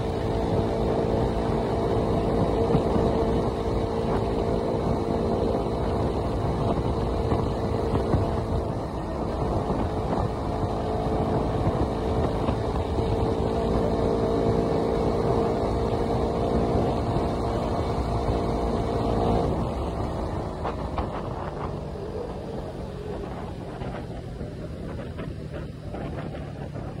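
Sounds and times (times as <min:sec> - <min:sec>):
motorcycle engine cruising: 0:00.0 - 0:27.0
wind rushing over microphone: 0:00.0 - 0:27.0.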